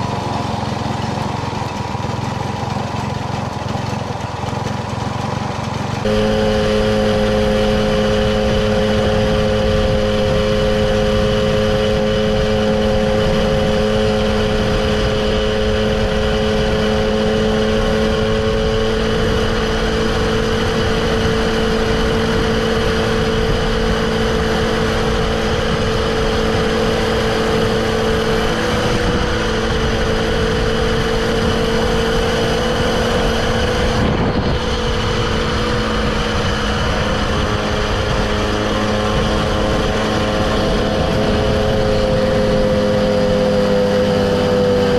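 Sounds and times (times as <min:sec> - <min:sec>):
moped engine running: 0:00.0 - 0:44.9
wind and road noise: 0:00.0 - 0:44.9.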